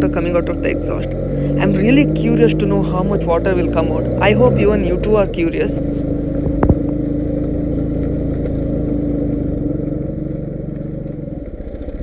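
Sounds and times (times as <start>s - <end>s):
car engine and exhaust drone: 0.0s - 12.0s.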